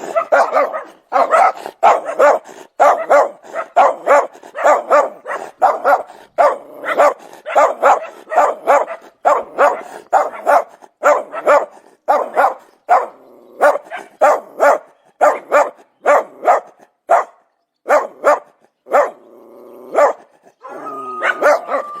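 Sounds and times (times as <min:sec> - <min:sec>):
dog barking: 0:00.0 - 0:19.2, 0:19.9 - 0:22.0.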